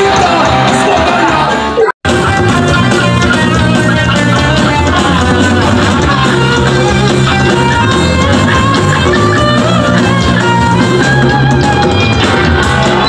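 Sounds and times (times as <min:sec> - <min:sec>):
electric guitars: 0:00.0 - 0:13.0
live punk band playing: 0:00.0 - 0:13.0.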